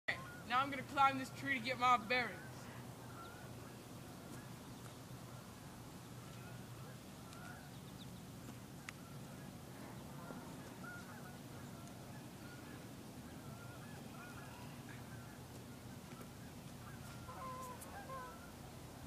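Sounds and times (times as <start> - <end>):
faint wavering bird chirps: 0.1 - 0.6, 2.3 - 19.0.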